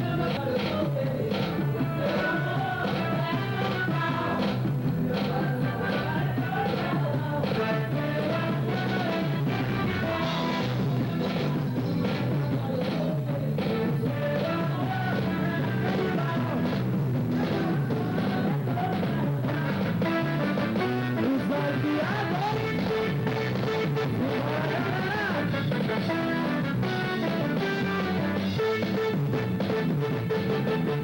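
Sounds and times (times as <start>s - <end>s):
band playing with drum beat: 0.0s - 31.0s.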